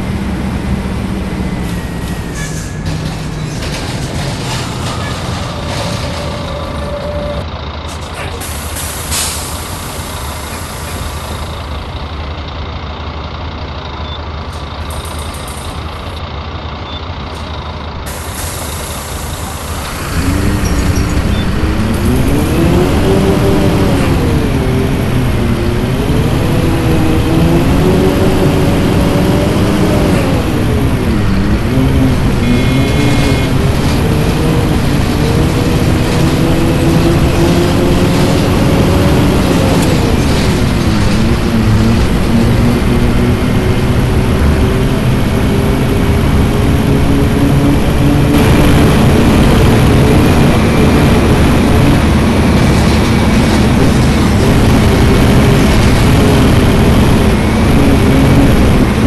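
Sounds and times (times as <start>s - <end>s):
bus accelerating through gears: 0.0s - 59.0s
bus engine idling: 0.0s - 59.0s.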